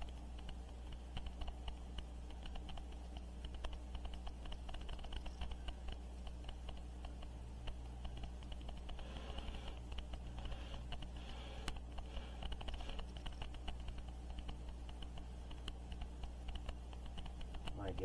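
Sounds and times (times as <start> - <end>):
paintbrush tapping and clicking: 0.0 - 18.0
steady low hum: 0.0 - 18.0.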